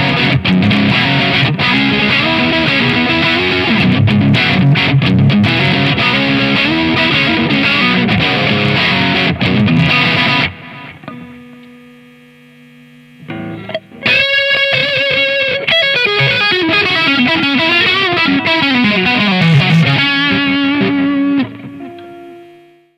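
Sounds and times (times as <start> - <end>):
electric guitar chord ringing: 0.0 - 22.9
electric guitar lead lines: 0.0 - 22.9.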